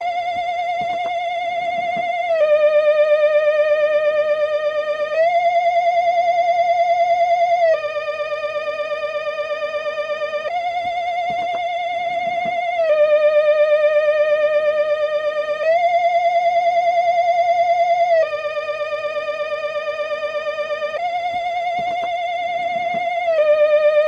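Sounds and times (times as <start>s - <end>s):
eerie electronic tone with vibrato: 0.0s - 24.0s.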